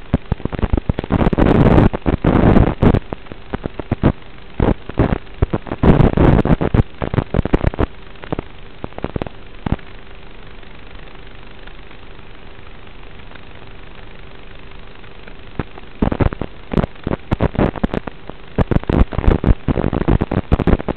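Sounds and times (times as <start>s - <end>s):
faint steady tone: 0.0s - 20.9s
static crackling and popping: 0.0s - 20.9s
steady static hiss: 0.0s - 20.9s.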